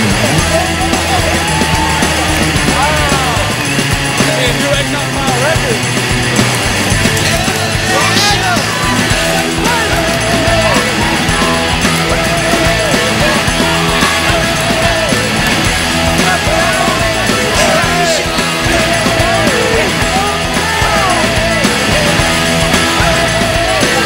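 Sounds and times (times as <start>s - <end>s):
loud punk rock music: 0.0s - 24.0s.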